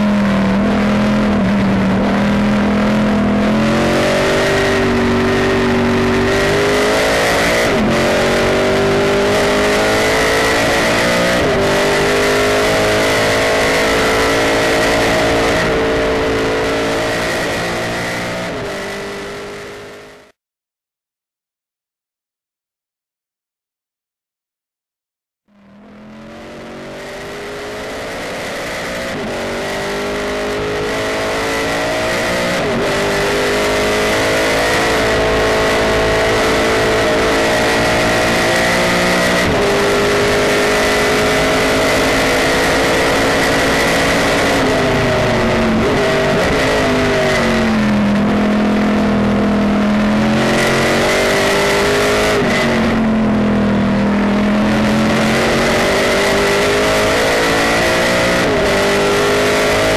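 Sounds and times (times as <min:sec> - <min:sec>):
high whine: 0:00.0 - 0:20.4, 0:25.5 - 0:59.9
race car engine at high revs: 0:00.0 - 0:20.4, 0:25.5 - 0:59.9.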